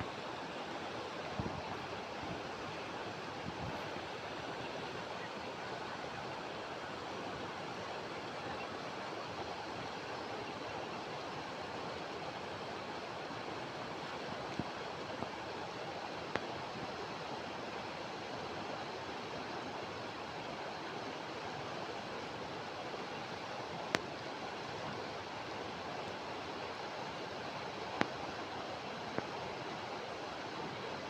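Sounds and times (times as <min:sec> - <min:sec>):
stream flowing over rocks: 0:00.0 - 0:31.0.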